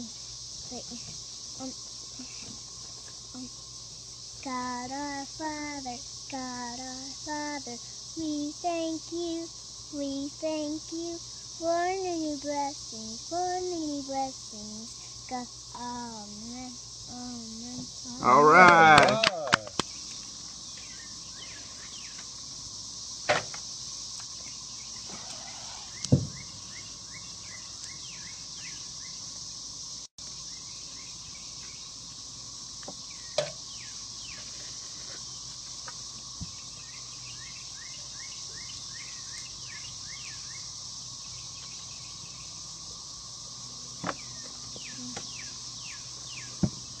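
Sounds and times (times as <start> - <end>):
insect drone: 0.0 - 47.0.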